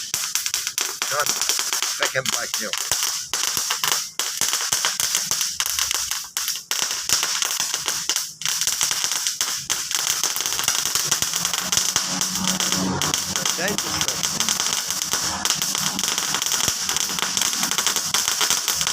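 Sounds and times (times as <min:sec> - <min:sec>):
firecrackers cracking: 0:00.0 - 0:18.9.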